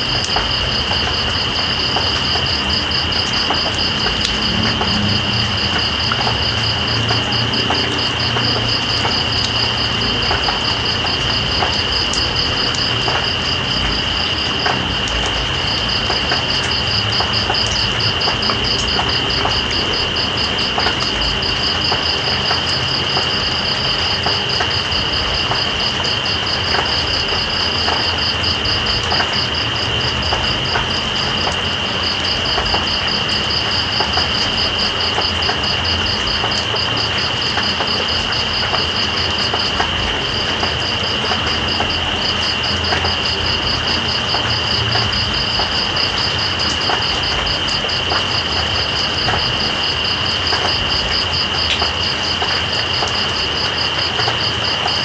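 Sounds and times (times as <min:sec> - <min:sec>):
insect high drone: 0:00.0 - 0:55.0
raindrop ticks: 0:00.0 - 0:55.0
steady rain hiss: 0:00.0 - 0:55.0.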